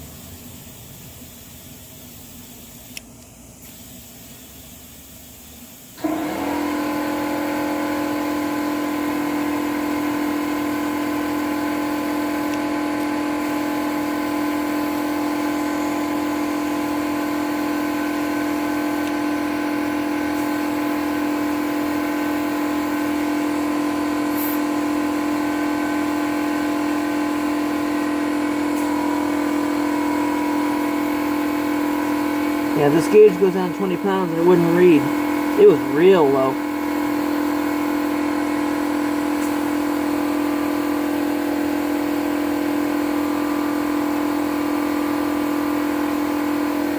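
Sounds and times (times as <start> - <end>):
air compressor humming: 0.0 - 46.9.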